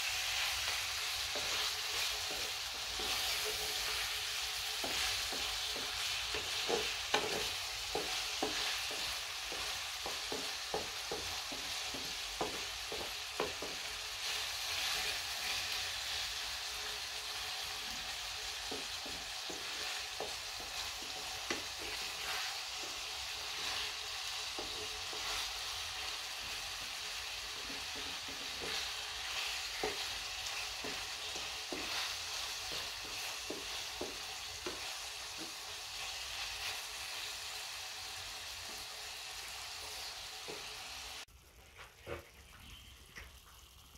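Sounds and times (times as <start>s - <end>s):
food sizzling in a metal pan: 0.0s - 43.9s
wooden spatula scraping a pan: 0.2s - 37.7s.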